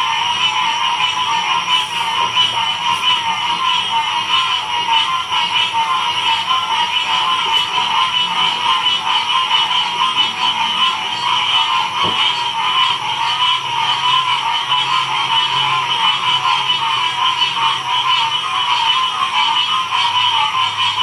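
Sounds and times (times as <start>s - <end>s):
chorus of frogs calling: 0.0s - 21.0s.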